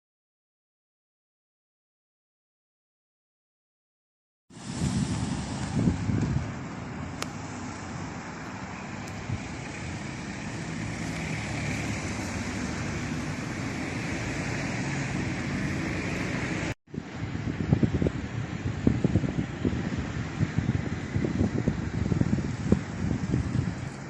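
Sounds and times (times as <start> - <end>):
road traffic: 4.5 - 24.0
wind: 4.5 - 24.0
wind buffeting microphone: 4.6 - 24.0.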